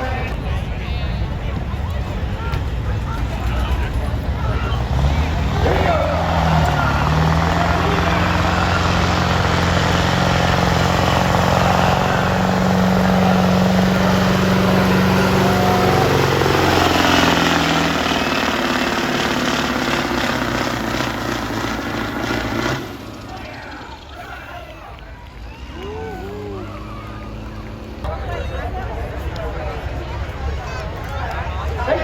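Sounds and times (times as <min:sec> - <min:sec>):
truck diesel engine at high revs: 0:02.1 - 0:32.0.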